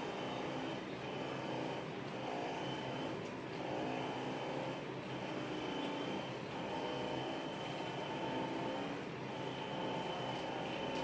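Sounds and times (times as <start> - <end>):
vibration massager motor hum: 0.0 - 11.0.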